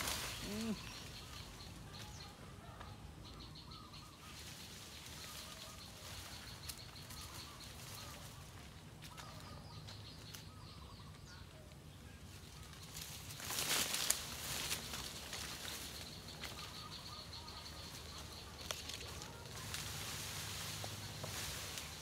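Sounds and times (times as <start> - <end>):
faint birds chirping: 0.0 - 22.0
low outdoor background: 0.0 - 22.0.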